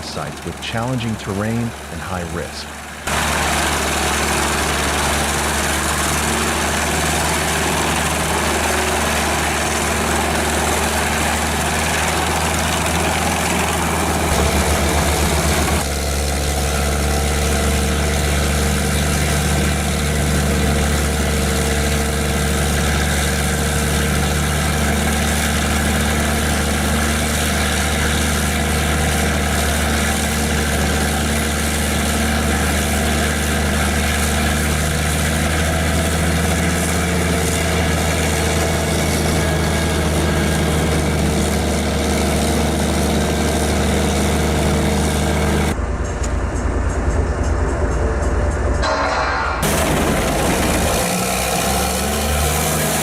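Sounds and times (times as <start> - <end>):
wood chipper engine drone: 0.0 - 53.0.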